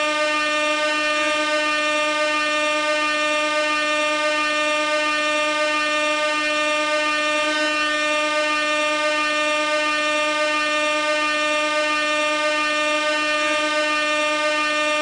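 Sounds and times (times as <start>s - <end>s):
air horn blast: 0.0s - 15.0s.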